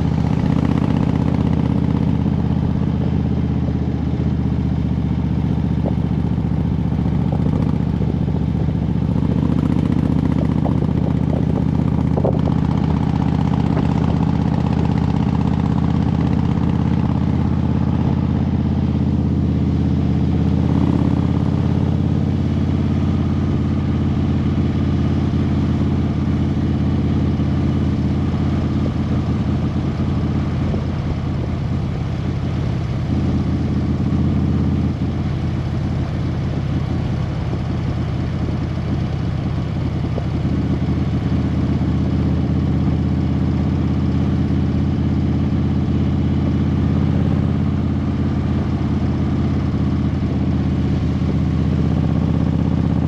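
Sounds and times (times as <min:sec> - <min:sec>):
engine humming steadily: 0:00.0 - 0:53.0.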